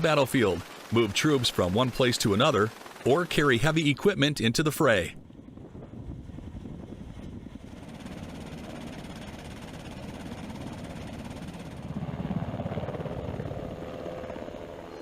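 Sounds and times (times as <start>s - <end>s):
helicopter rotor blades beating: 0.0s - 15.0s
turbine engine whine: 0.0s - 15.0s.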